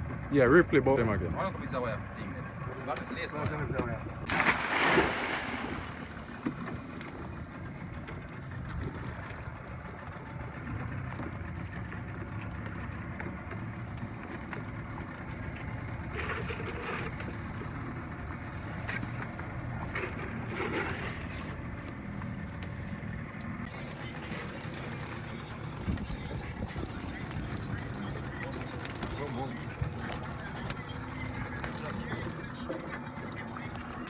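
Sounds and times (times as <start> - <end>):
boat motor running: 0.0 - 34.0
water noise: 4.1 - 22.4, 23.0 - 34.0.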